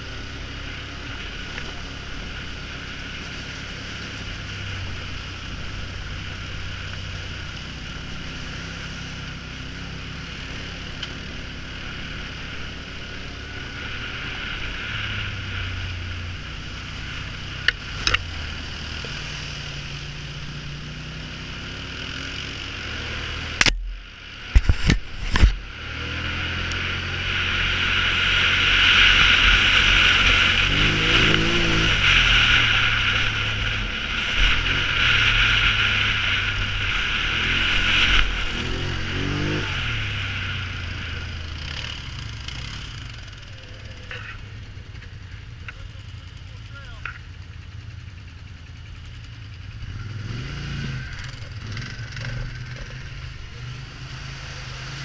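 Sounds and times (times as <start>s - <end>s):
atv engine running: 0.0s - 55.0s
wind and tyre hiss: 0.0s - 55.0s.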